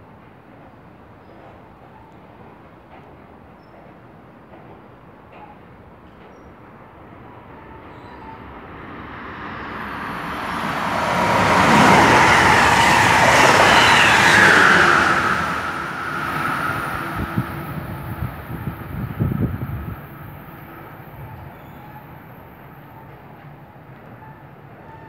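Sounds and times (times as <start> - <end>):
passenger train passing at speed: 0.0 - 25.0.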